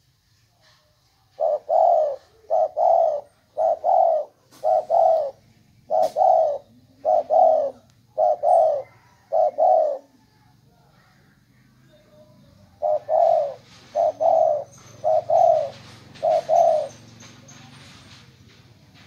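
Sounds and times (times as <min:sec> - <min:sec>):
dove cooing: 0:01.2 - 0:10.5, 0:12.0 - 0:18.2.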